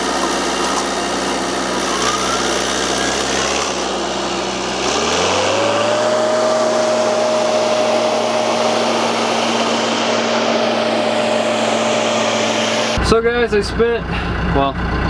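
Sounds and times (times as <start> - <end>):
tractor engine revving: 0.0 - 13.2.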